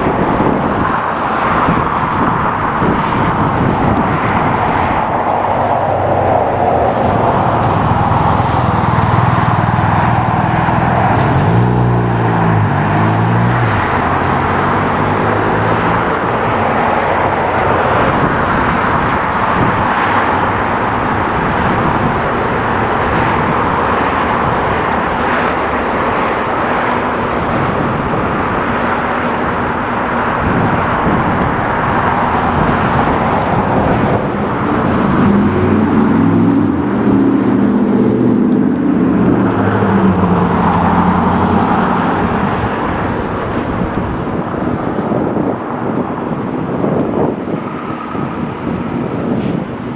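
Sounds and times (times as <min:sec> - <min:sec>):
jet airliner engines roaring: 0:00.0 - 0:49.9.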